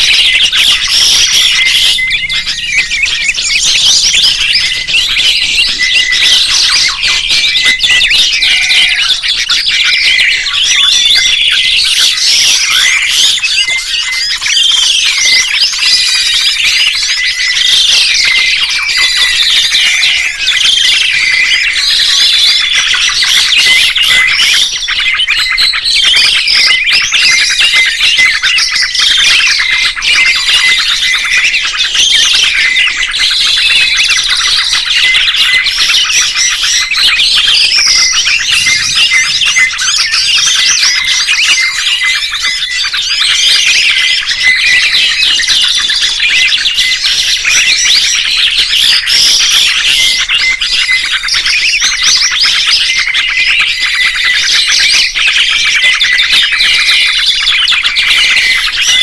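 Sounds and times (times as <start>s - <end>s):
dense birdsong: 0.0s - 59.0s.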